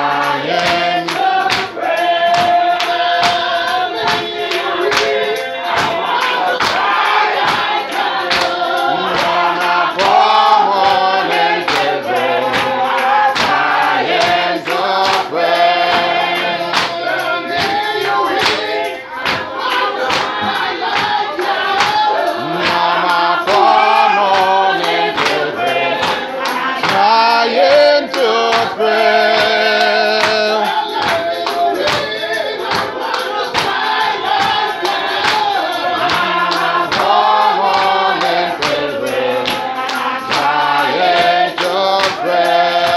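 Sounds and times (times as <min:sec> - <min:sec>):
congregation singing a hymn: 0:00.0 - 0:42.9
tambourine shaken: 0:00.0 - 0:42.9.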